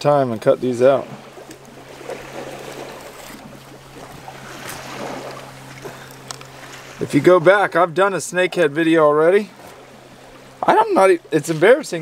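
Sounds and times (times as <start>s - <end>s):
low hum: 0.0s - 12.0s
water noise: 0.0s - 12.0s
wind: 0.0s - 12.0s.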